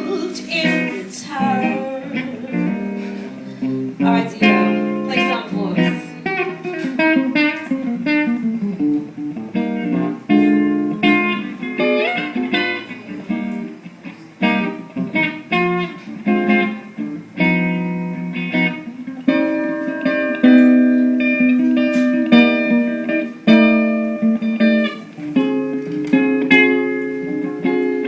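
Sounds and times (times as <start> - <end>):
solo jazz guitar: 0.0 - 28.0.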